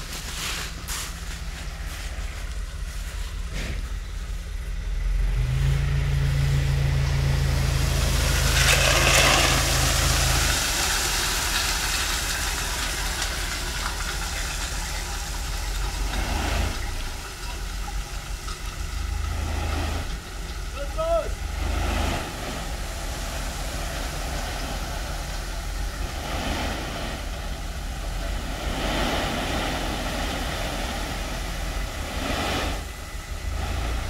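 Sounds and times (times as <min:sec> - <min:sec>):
gravel sliding out of truck bed: 0:00.0 - 0:04.5, 0:05.2 - 0:34.0
diesel truck engine running: 0:00.0 - 0:34.0.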